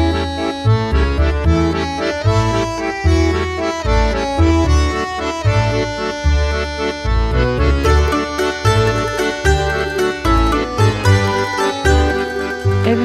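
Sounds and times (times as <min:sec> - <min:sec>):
accordion tune with bass line: 0:00.0 - 0:13.0.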